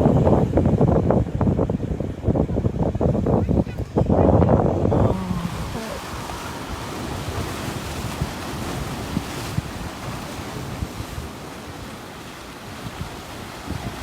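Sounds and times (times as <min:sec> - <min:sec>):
sea surf rushing: 0:00.0 - 0:14.0
wind buffeting microphone: 0:00.0 - 0:14.0.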